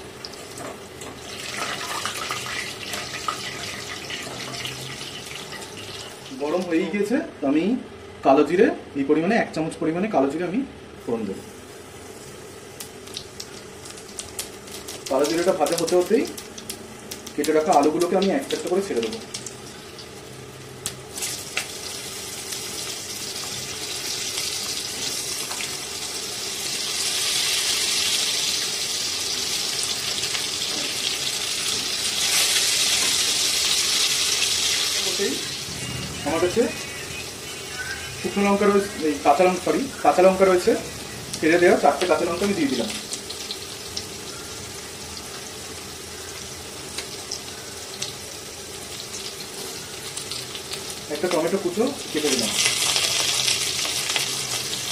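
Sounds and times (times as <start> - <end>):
potato wedges sizzling in oil: 0.0 - 7.1, 11.0 - 54.9.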